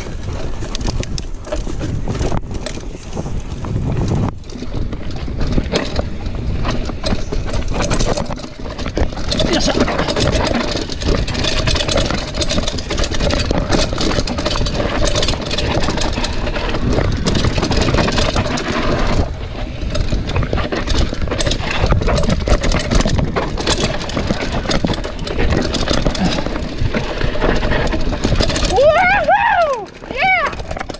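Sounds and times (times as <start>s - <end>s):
bike knocking and rattling: 0.0s - 30.9s
tyre and wind rush: 0.0s - 30.9s.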